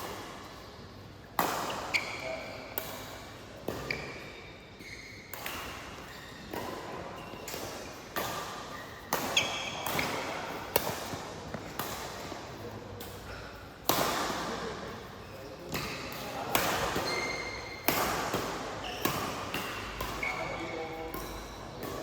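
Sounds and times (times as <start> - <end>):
shoes squeaking on court floor: 0.0 - 12.3, 14.9 - 22.0.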